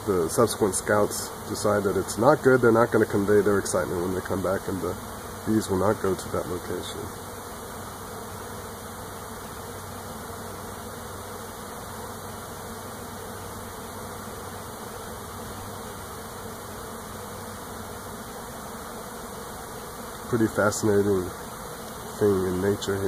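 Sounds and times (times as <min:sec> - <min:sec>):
bee swarm humming: 0:00.0 - 0:23.0.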